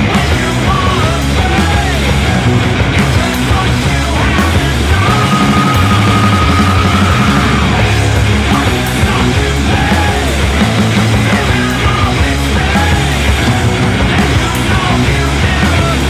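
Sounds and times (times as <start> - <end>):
loud rock music: 0.0 - 16.0
person singing or shouting: 0.0 - 16.0.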